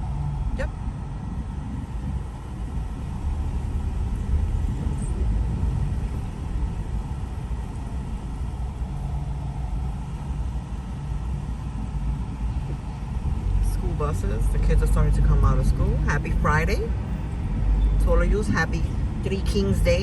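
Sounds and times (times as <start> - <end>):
car engine: 0.0 - 20.0
road and tyre rumble: 0.0 - 20.0.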